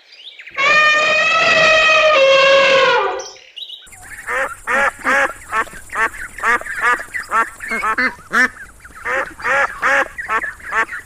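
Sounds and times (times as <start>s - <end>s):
birds honking: 0.5s - 11.0s
long animal call: 0.6s - 11.0s.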